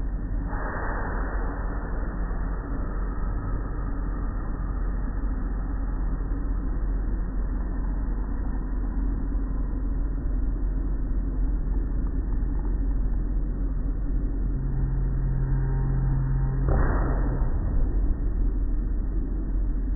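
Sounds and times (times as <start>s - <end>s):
car wash machinery rumble: 0.0s - 19.9s.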